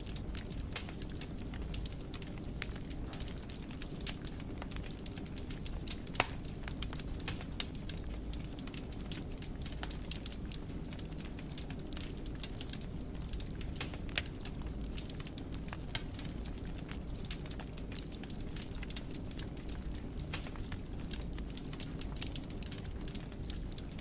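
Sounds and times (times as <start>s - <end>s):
fireplace fire crackling: 0.0s - 24.0s
low rumble of flames: 0.0s - 24.0s.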